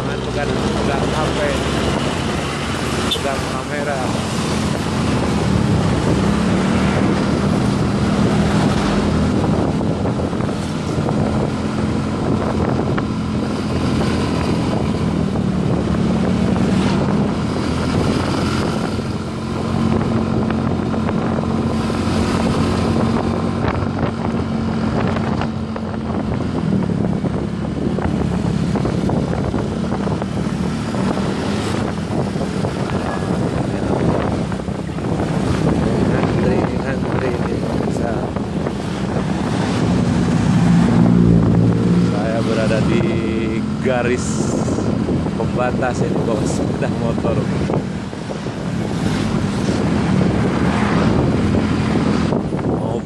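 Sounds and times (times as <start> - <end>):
wind noise on microphone: 0.0 - 53.0.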